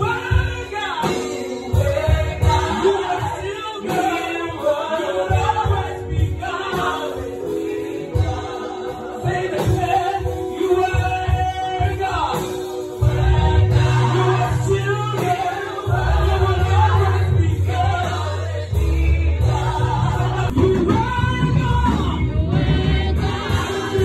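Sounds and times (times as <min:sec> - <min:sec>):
gospel choir singing: 0:00.0 - 0:24.0.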